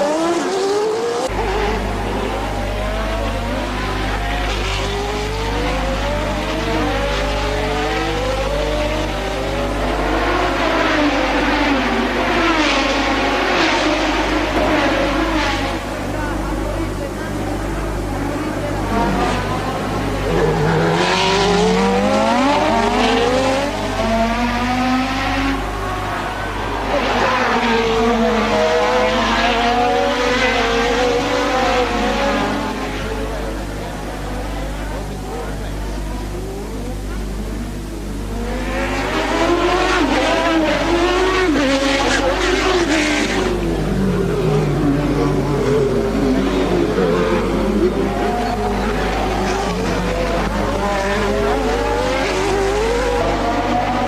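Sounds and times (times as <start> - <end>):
racing car engines: 0.0 - 54.0.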